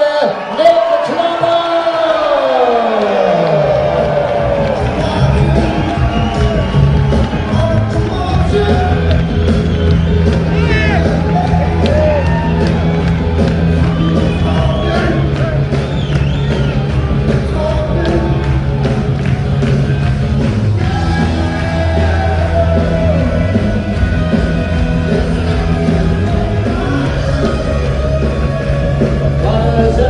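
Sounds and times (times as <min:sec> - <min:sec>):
rock music with singing: 0:00.0 - 0:30.0.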